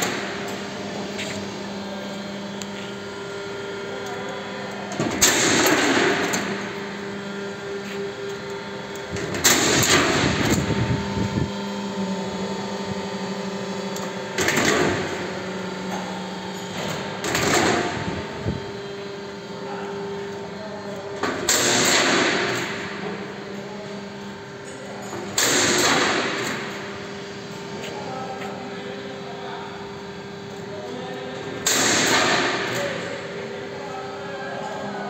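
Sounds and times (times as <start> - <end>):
machine motor hum: 0.0 - 35.0.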